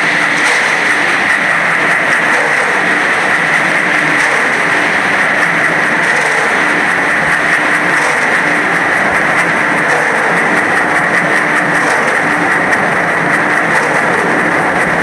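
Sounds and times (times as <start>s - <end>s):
drum mixer churning gritty load: 0.0s - 15.0s.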